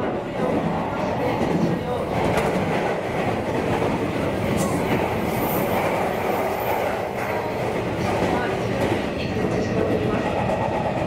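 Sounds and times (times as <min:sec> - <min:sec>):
passing train alongside: 0:00.0 - 0:11.0
wheels rumbling on rail: 0:00.0 - 0:11.0
faint clickety-clack: 0:00.4 - 0:11.0.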